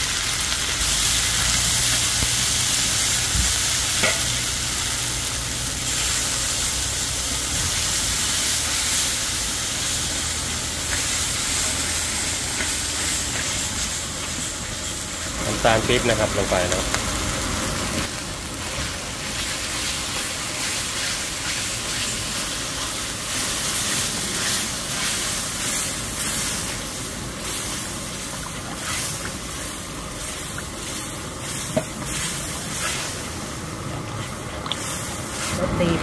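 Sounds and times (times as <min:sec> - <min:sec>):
curry sizzling in a pan: 0:00.0 - 0:35.6.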